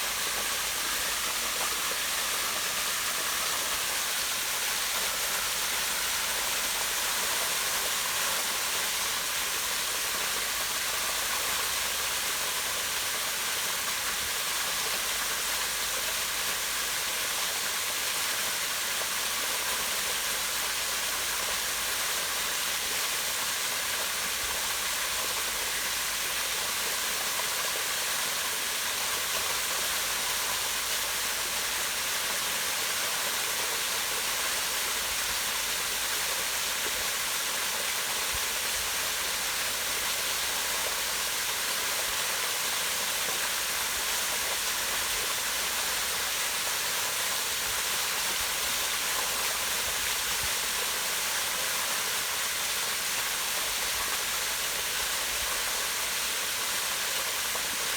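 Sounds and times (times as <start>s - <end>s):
waterfall pouring into pond: 0.0s - 57.9s.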